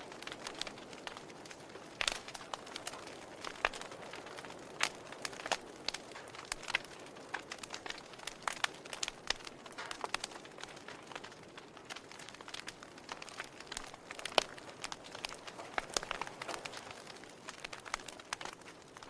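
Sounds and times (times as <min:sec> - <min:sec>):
soft fire hiss: 0:00.0 - 0:19.0
wood fire crackling and popping: 0:00.0 - 0:19.0.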